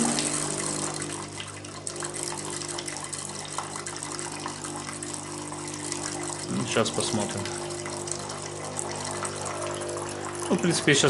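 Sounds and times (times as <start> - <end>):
coffee machine pump hum: 0.0 - 11.0
water running into glass: 0.0 - 11.0.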